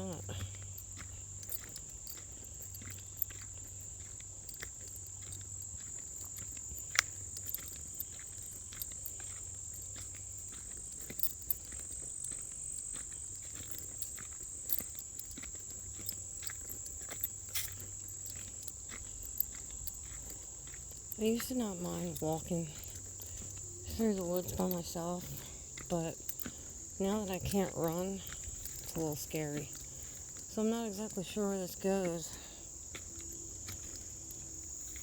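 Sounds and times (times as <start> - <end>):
footsteps crunching on a trail: 0.0 - 35.0
insects trilling: 0.0 - 35.0.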